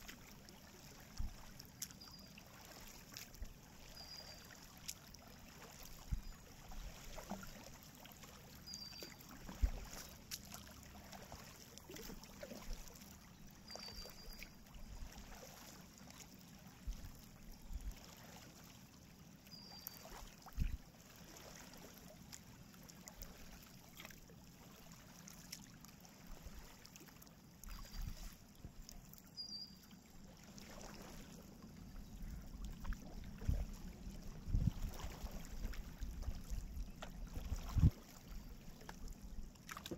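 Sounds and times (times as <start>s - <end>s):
paddle dipping through water: 0.0s - 39.9s
water drips and splashes: 0.0s - 39.9s.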